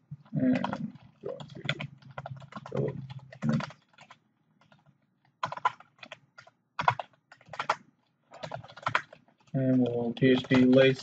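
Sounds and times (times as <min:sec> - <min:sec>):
computer keyboard typing: 0:00.2 - 0:11.0.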